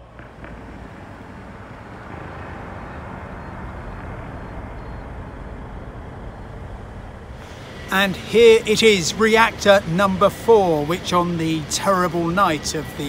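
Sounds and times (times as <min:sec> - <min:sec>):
low outdoor rumble and hiss: 0:00.0 - 0:13.0.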